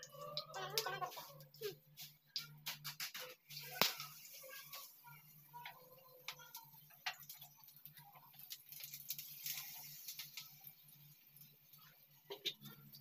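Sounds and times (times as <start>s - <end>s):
oil crackling and spitting: 0.0s - 13.0s.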